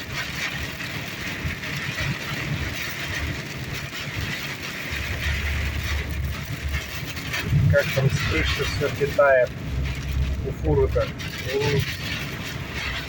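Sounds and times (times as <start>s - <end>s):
deep rumble: 0.0s - 13.0s
heavy rain on a car: 0.0s - 13.0s
windscreen wipers: 0.0s - 13.0s.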